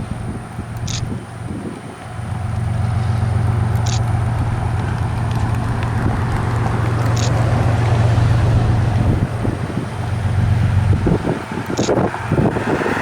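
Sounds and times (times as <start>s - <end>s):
freight train rumbling past: 0.0s - 13.0s
wind buffeting microphone: 0.0s - 13.0s.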